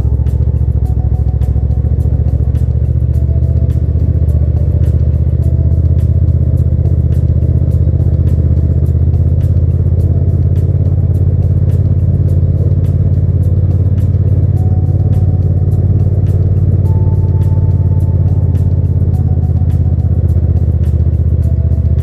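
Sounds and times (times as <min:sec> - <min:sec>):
motorcycle engine running: 0:00.0 - 0:22.0
music: 0:00.0 - 0:22.0
regular ticking beat: 0:00.0 - 0:22.0.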